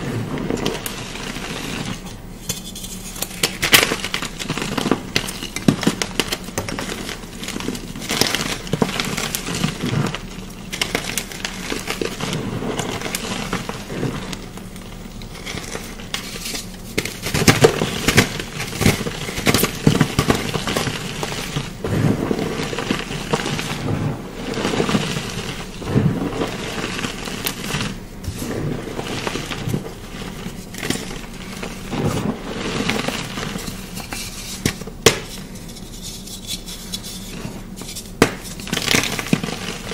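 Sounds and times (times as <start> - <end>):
chalk crunching and snapping: 0.0 - 39.9.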